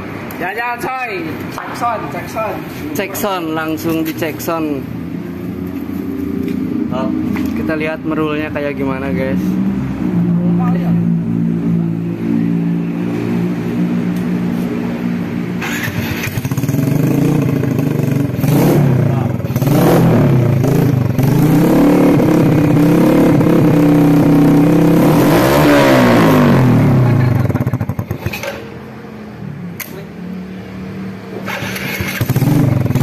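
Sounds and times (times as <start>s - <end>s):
motorcycle engine revving: 4.8s - 33.0s.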